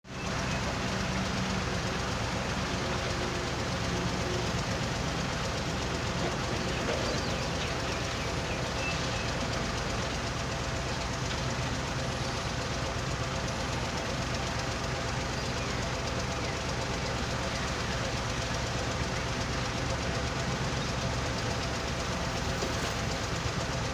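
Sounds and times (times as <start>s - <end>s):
diesel engine hum: 0.0s - 23.9s.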